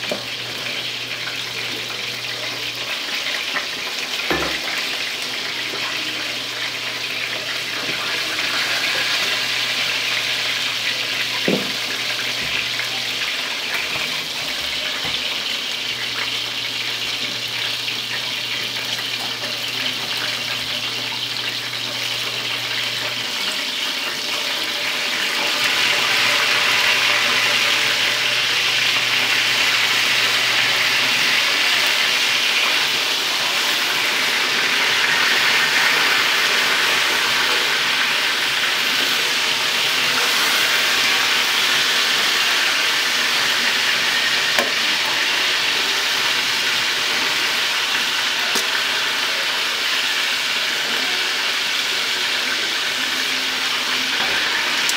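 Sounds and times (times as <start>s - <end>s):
chicken frying in oil: 0.0s - 54.9s.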